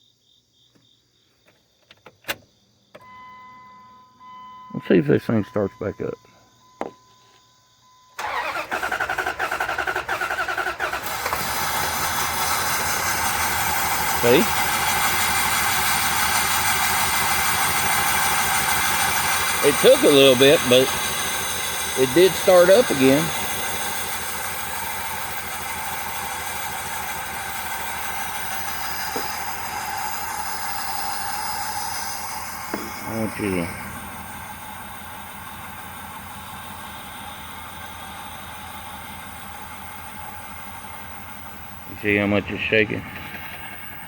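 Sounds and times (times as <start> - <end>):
engine cranking on starter: 8.2 - 44.0
engine running: 8.2 - 44.0.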